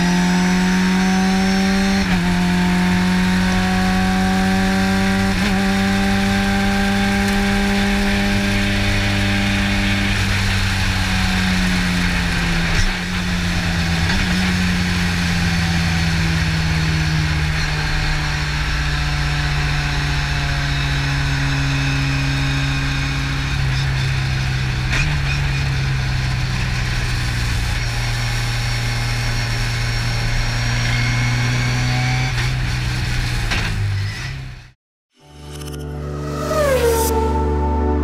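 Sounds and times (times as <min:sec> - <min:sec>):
race car engine: 0:00.0 - 0:34.8, 0:35.5 - 0:38.0.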